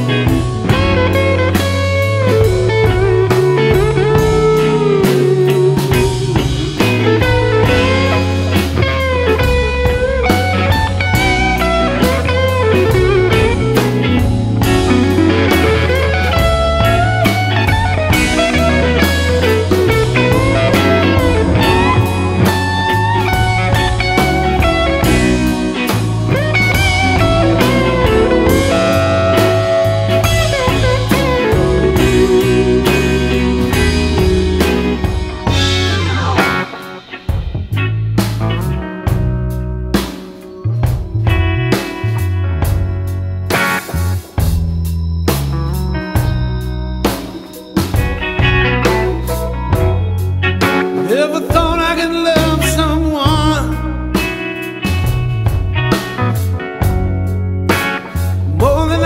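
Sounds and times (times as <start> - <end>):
bass line: 0.0 - 59.0
drum kit: 0.0 - 59.0
electric guitar bending lines: 0.0 - 59.0.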